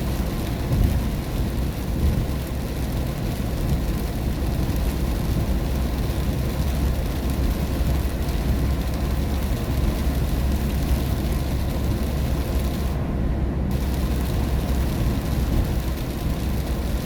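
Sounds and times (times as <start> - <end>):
rain on car: 0.0 - 13.1, 13.7 - 17.0
car driving on wet road: 0.0 - 17.0.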